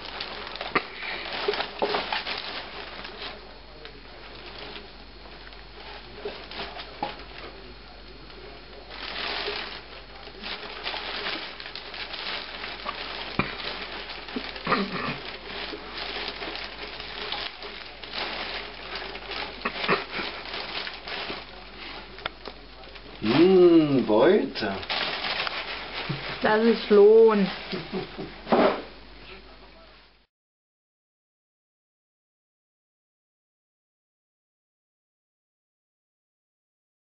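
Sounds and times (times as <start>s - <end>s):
plastic bag rustling and crinkling: 0.0s - 30.2s.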